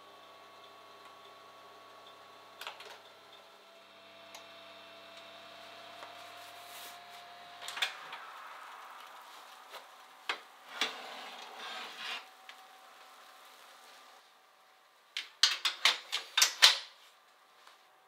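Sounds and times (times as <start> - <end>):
oven humming: 0.0 - 16.0.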